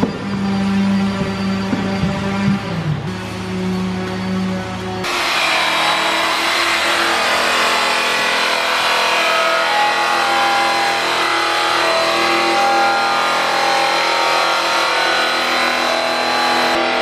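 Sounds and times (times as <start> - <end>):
grinder grinding metal: 0.0 - 17.0.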